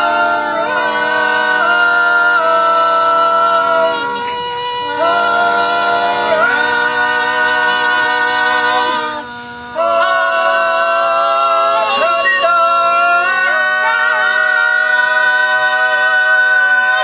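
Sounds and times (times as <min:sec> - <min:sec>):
vocal group singing in harmony: 0:00.0 - 0:17.0.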